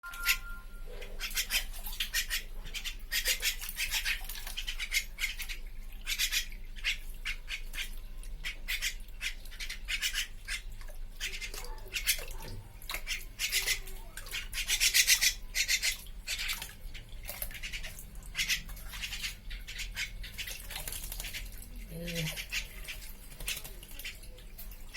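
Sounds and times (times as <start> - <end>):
bird splashing in water: 1.2 - 24.9.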